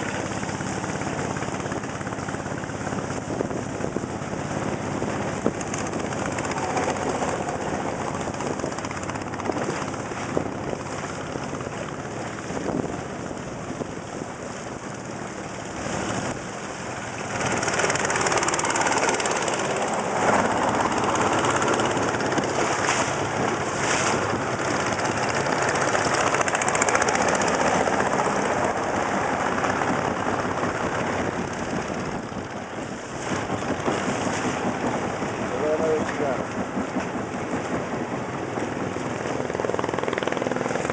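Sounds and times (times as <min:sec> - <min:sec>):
motor boat engine: 0:00.0 - 0:40.9
water rushing: 0:00.0 - 0:40.9
wind: 0:00.0 - 0:40.9.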